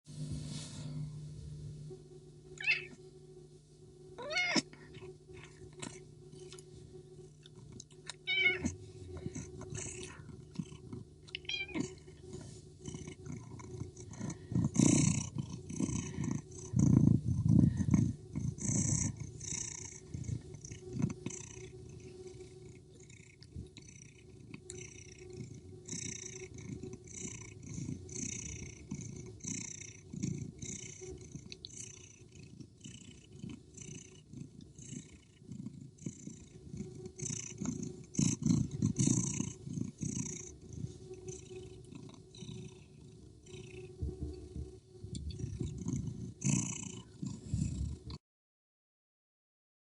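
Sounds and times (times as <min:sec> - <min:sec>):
cat purring: 0:00.3 - 0:03.4, 0:04.0 - 0:48.2.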